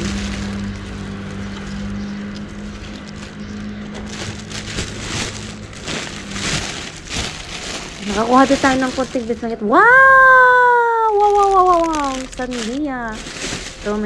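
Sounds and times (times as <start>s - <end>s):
plastic bags rustling: 0.0s - 14.0s.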